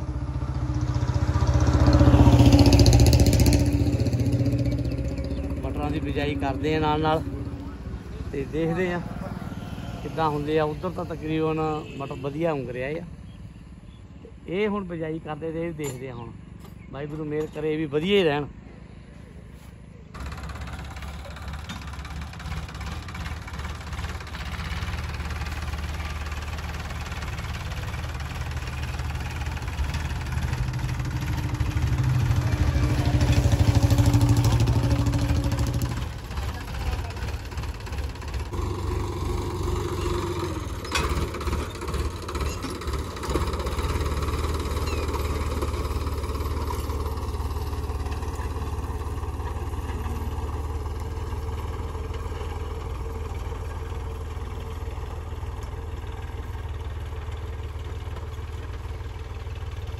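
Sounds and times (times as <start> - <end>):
tractor diesel engine running: 0.0 - 14.0, 19.5 - 59.9.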